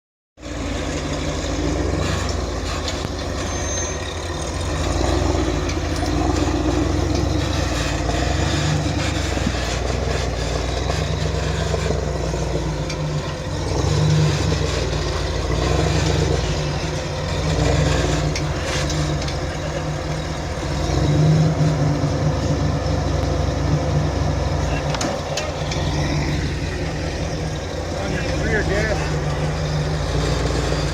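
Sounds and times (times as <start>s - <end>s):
road and wind noise: 0.4s - 30.9s
vehicle engine revving: 0.4s - 30.9s.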